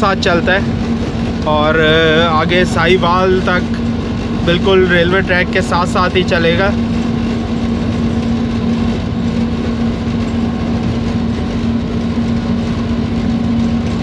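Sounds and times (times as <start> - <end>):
diesel engine drone: 0.0 - 14.0
steady hum: 0.0 - 14.0
train rumbling on track: 0.0 - 14.0.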